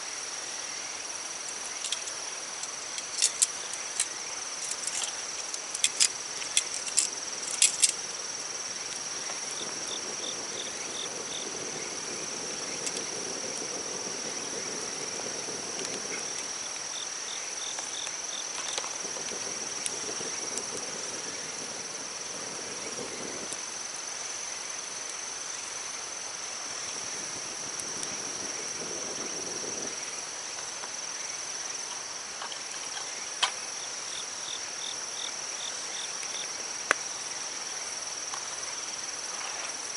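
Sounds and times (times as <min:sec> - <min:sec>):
insects chirring: 0:00.0 - 0:39.9
soft pulsing insect call: 0:00.0 - 0:39.9.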